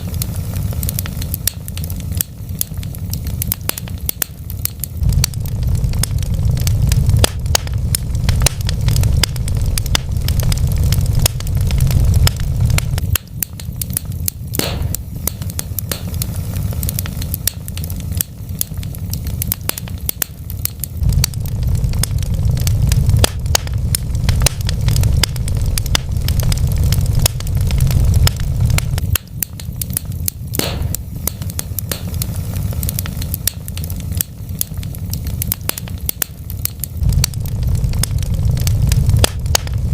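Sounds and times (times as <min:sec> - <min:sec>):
loud wood snap: 0:00.0 - 0:39.8
low rumble: 0:00.0 - 0:39.9
wood fire crackling: 0:00.0 - 0:39.9.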